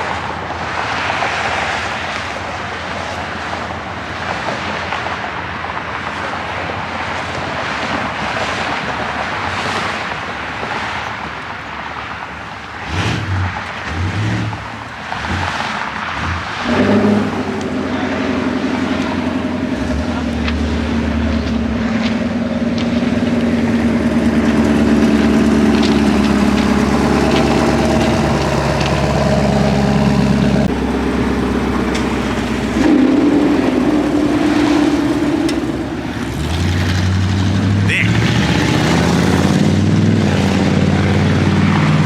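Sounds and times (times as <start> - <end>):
car engines idling: 0.0 - 42.0.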